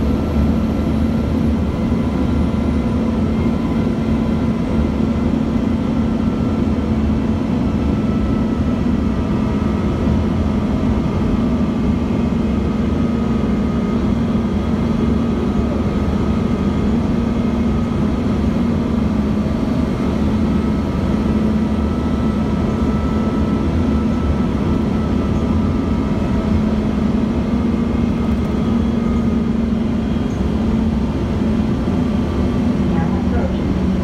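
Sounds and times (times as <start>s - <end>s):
bus diesel engine droning: 0.0s - 34.0s
road rumble: 0.0s - 34.0s.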